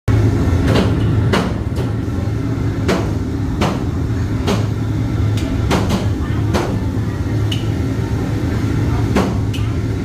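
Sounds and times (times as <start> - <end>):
steady low hum: 0.1 - 10.0.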